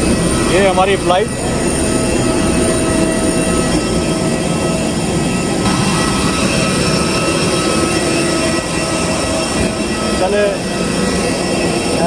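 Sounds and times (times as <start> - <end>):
jet airliner drone: 0.0 - 12.0
whining tones: 0.0 - 12.0.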